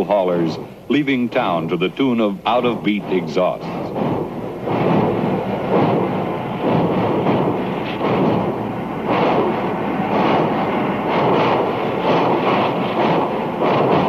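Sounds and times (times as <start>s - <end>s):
steam locomotive exhaust chuffs: 0.0s - 14.0s.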